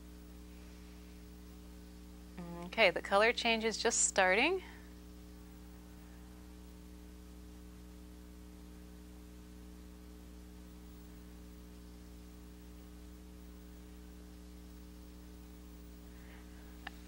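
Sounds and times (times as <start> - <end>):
electrical hum: 0.0 - 17.0
tape hiss: 0.0 - 17.0.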